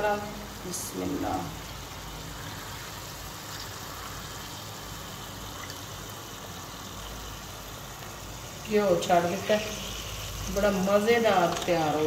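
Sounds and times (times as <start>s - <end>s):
curry sizzling in a wok: 0.0s - 12.0s.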